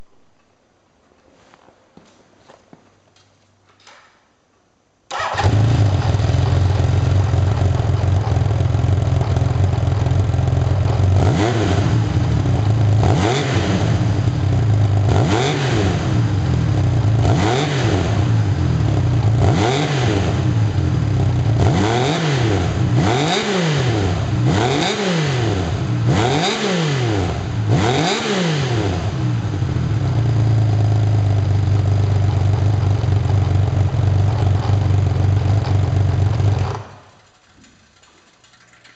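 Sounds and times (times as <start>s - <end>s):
motorcycle engine revving and idling: 5.1s - 38.9s.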